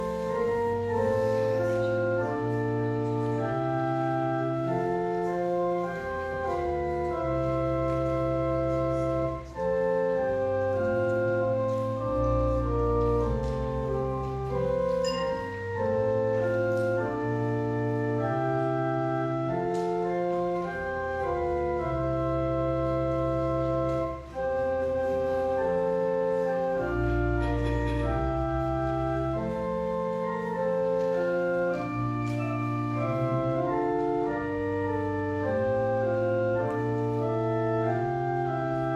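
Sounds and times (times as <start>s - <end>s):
church organ chords: 0.0s - 38.9s.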